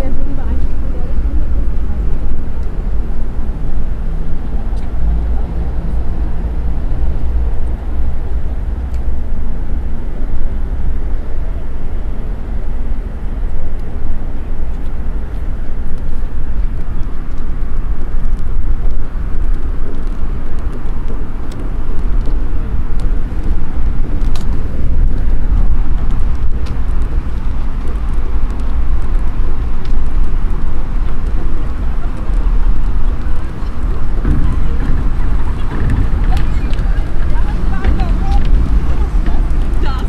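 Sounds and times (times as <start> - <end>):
heavy low rumble: 0.0 - 40.0.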